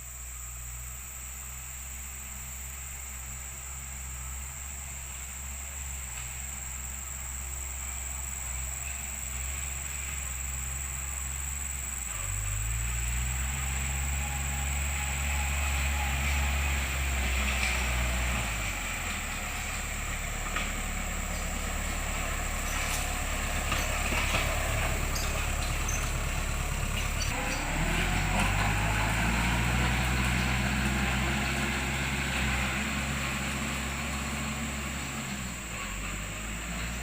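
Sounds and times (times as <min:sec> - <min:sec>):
machine engine running: 0:00.0 - 0:37.0.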